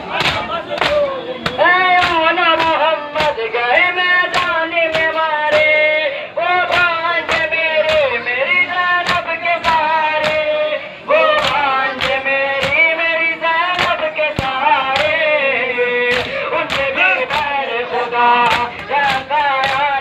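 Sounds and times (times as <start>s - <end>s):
person singing a lament: 1.5s - 20.0s.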